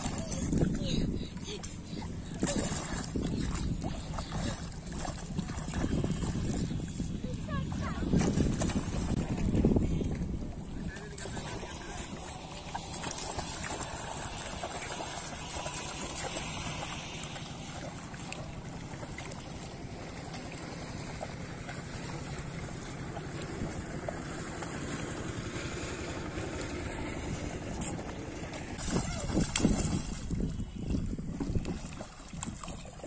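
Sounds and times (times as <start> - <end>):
wind on microphone: 0.0 - 18.6, 22.1 - 33.0
wading through shallow water: 0.0 - 33.0.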